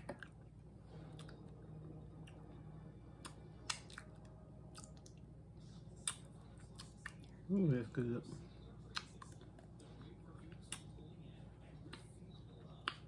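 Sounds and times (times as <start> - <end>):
chewing food: 0.0 - 7.5, 8.4 - 13.0
faint low hum: 0.0 - 13.0.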